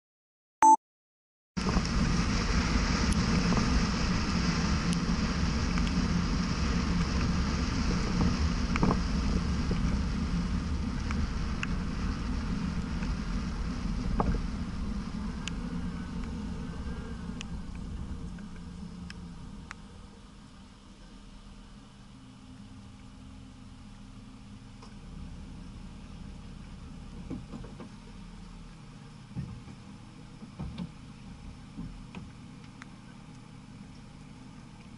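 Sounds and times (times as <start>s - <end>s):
road and engine noise in car: 1.6s - 34.9s.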